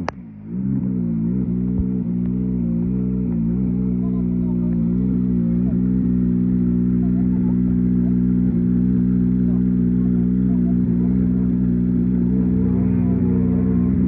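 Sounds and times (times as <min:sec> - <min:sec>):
rally car engine idling: 0:00.0 - 0:14.0.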